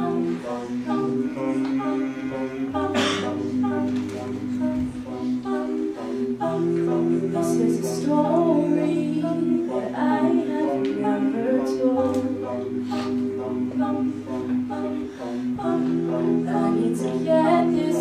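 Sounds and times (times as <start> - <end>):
backing voices holding chords: 0.0 - 18.0
female lead vocal: 0.0 - 18.0.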